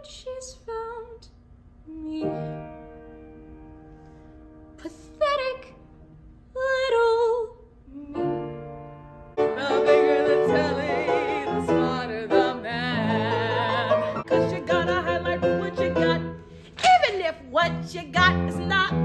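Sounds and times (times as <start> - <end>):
woman singing with vibrato: 0.0 - 2.8, 4.8 - 8.8, 9.4 - 19.0.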